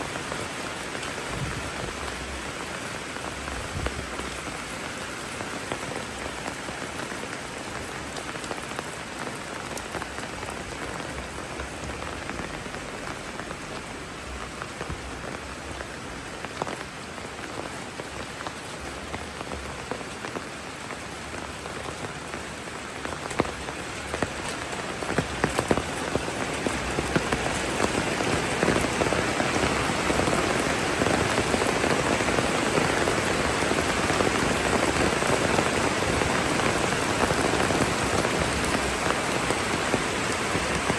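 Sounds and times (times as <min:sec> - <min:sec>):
raindrops ticking on surfaces: 0:00.0 - 0:40.9
steady rainfall: 0:00.0 - 0:40.9.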